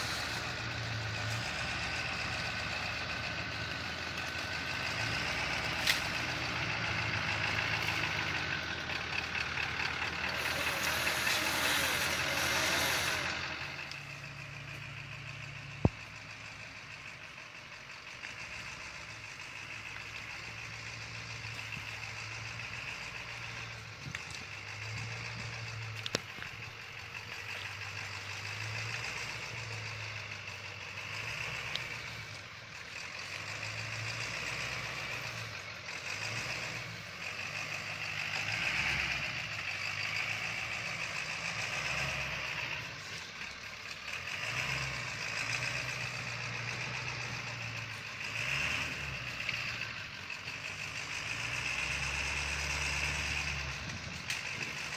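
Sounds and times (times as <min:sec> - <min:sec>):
truck engine rumbling: 0:00.0 - 0:54.9.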